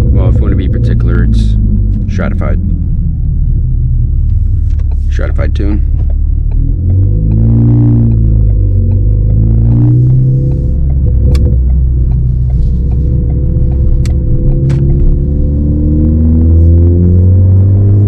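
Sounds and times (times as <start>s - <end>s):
exhaust pops: 0.0s - 16.4s
car exhaust droning: 0.0s - 18.0s.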